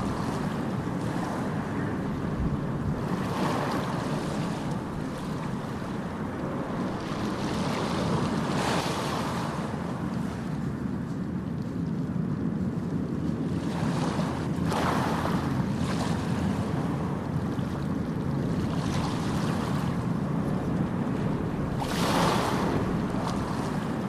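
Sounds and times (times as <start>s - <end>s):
low surf rumble: 0.0s - 24.0s
waves breaking: 0.0s - 24.0s.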